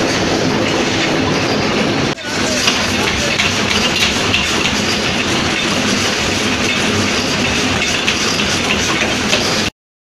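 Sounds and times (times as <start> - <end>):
forging machinery clatter and rumble: 0.0 - 9.7.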